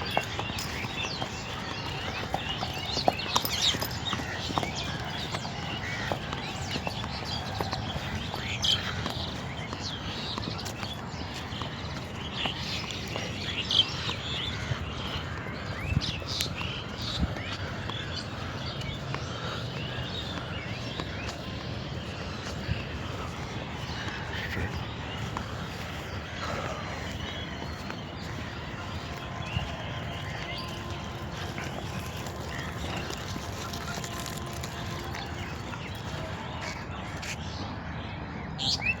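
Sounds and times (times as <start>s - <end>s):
birds chirping: 0.0s - 39.0s
outdoor background noise: 0.0s - 39.0s
steady background noise: 0.0s - 39.0s.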